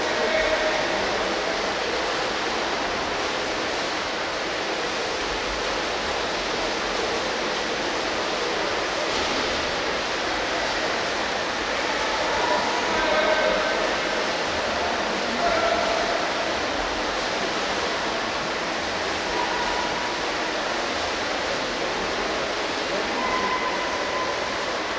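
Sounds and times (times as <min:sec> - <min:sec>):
swimmers splashing water: 0:00.0 - 0:24.9.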